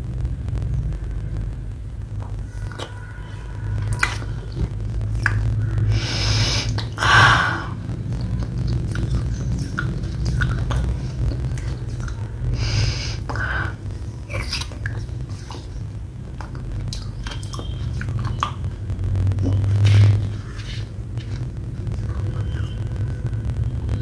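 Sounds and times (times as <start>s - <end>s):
steady low hum: 0.0s - 24.0s
person chewing wet clay: 2.1s - 22.9s.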